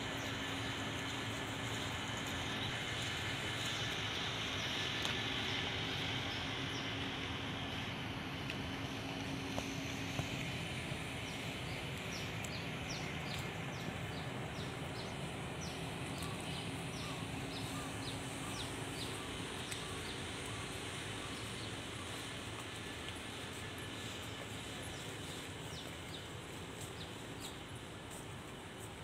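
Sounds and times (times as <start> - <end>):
low hum: 0.0 - 29.0
outdoor background hiss: 0.0 - 29.0.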